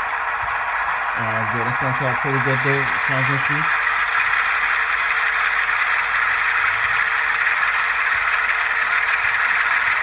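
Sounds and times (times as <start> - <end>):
diesel engine sound from small speaker: 0.0 - 10.0.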